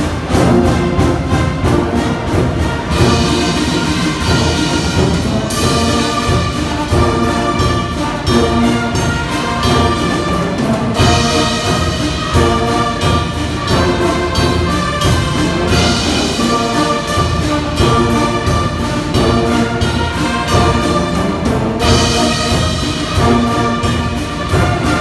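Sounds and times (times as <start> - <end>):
brass band playing: 0.0 - 25.0
steady drum beat: 0.0 - 25.0.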